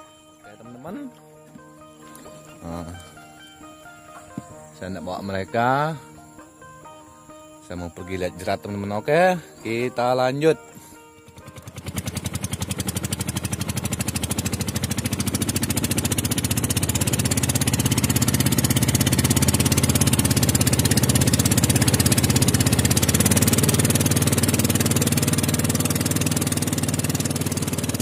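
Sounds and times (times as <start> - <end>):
small boat engine running: 0.0 - 28.0.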